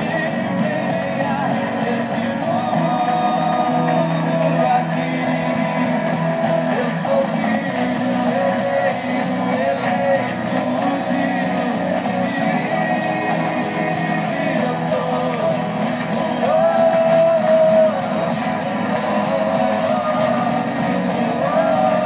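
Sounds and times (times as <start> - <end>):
music with singing on am radio: 0.0 - 22.0.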